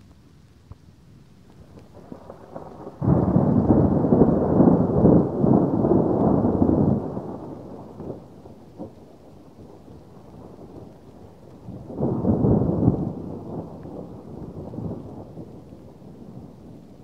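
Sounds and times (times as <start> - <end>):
thunder rumble: 1.7 - 17.0.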